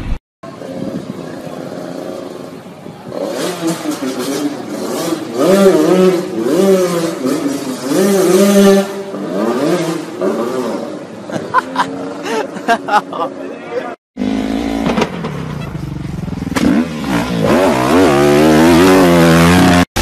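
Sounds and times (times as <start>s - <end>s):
motorcycle engine revving: 0.1s - 12.3s, 14.2s - 20.0s.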